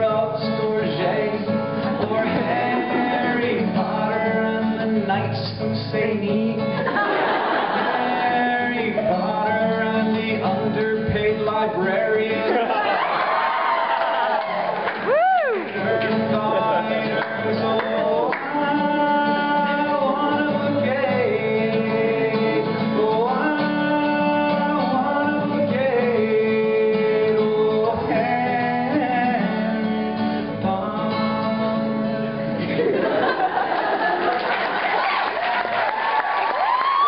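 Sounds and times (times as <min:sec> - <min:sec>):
guitar chords: 0:00.0 - 0:12.8, 0:14.7 - 0:33.1
man singing: 0:00.0 - 0:12.8, 0:15.4 - 0:32.6.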